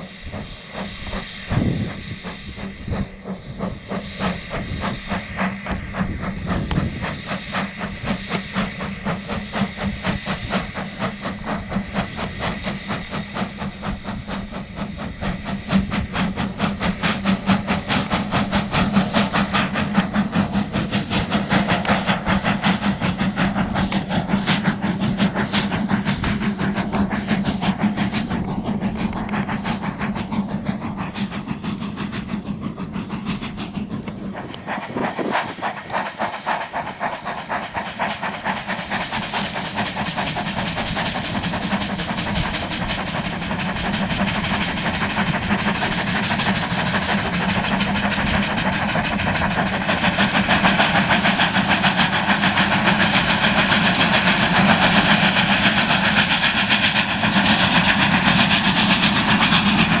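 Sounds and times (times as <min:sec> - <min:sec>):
steam locomotive exhaust: 0:00.0 - 1:00.0.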